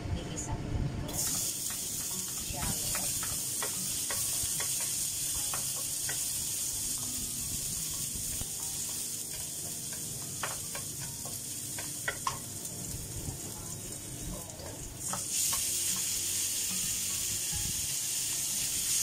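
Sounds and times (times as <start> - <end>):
garlic sizzling in hot oil: 1.1 - 19.0.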